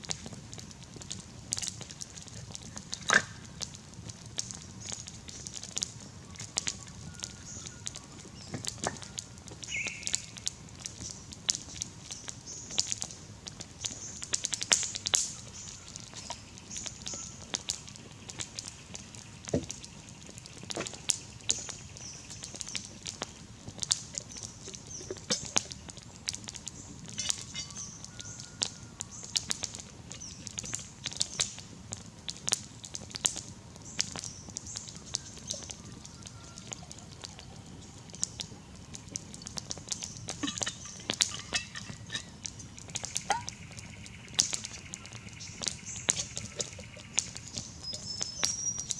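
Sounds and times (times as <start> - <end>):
campfire crackling: 0.0 - 48.9
faint high-pitched hiss: 0.0 - 48.9.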